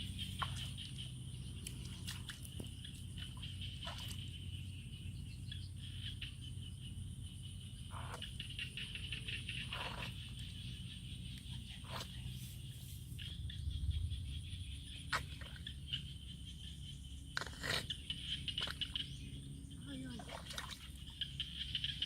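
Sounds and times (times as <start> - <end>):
insects droning: 0.0 - 22.0
low steady hum: 0.0 - 22.0.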